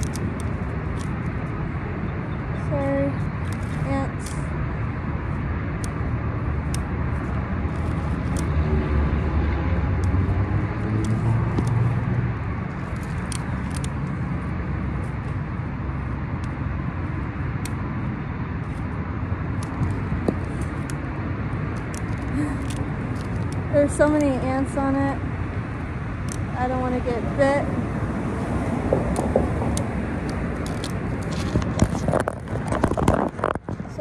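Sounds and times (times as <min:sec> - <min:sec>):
road traffic rumble: 0:00.0 - 0:34.0
vehicle passing: 0:00.0 - 0:34.0.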